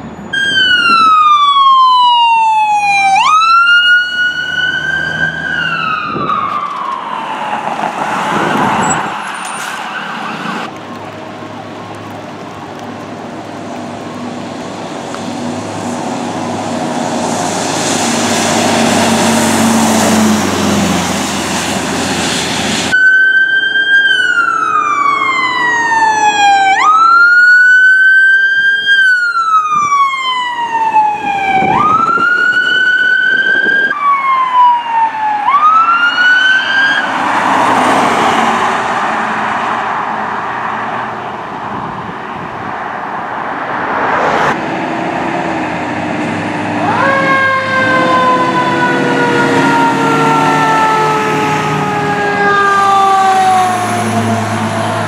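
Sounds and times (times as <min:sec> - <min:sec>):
fire truck siren: 0:00.0 - 0:12.3, 0:14.0 - 0:41.7, 0:43.6 - 0:55.0
passing trucks and road traffic: 0:00.0 - 0:55.0.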